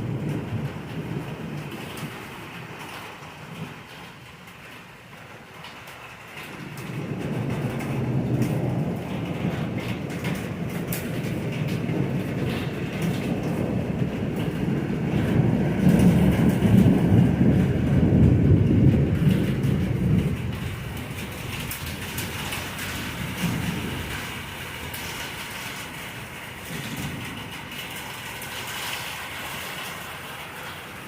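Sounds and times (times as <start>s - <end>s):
rolling thunder rumble: 0.0s - 31.0s.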